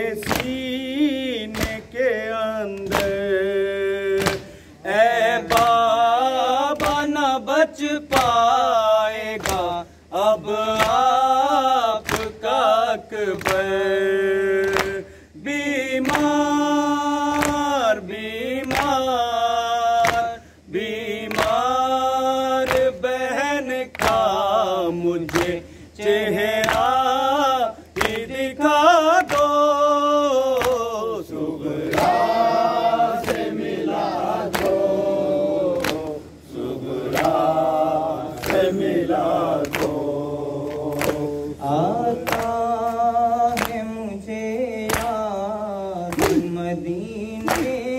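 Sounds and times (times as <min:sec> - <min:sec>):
man chanting into a microphone: 0:00.0 - 0:32.5, 0:37.2 - 0:47.9.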